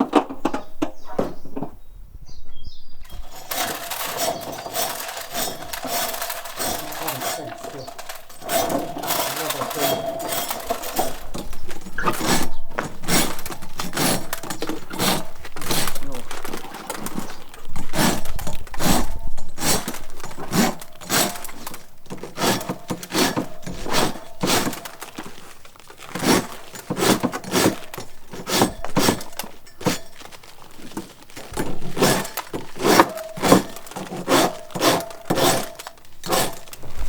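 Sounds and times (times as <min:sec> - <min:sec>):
hard objects knocking and clinking: 0:03.1 - 0:37.0.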